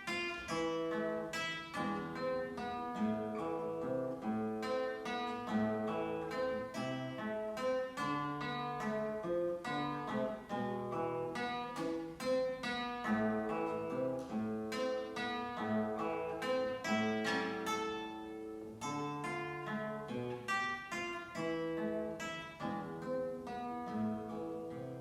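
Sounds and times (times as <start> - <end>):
solo classical guitar: 0.0 - 25.0.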